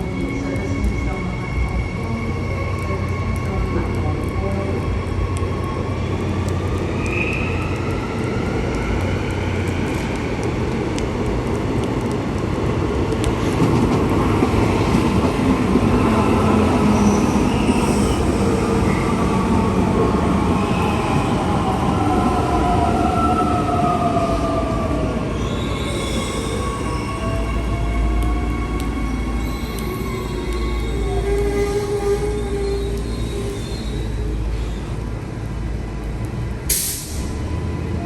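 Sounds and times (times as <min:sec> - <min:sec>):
train rail noise: 0:00.0 - 0:38.0.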